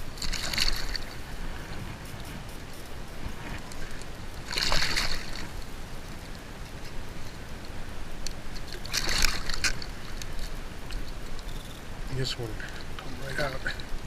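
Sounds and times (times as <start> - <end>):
water splashing: 0.0 - 11.4
low wash of moving water: 0.0 - 14.0.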